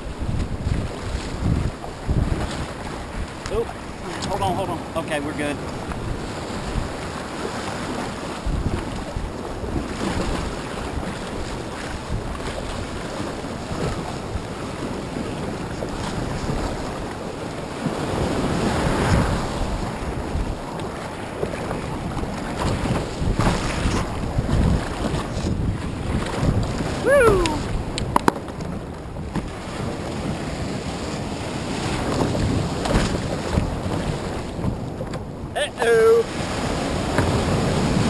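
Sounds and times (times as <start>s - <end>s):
wind buffeting microphone: 0.0s - 35.6s
surf washing around kayak hull: 0.0s - 38.0s.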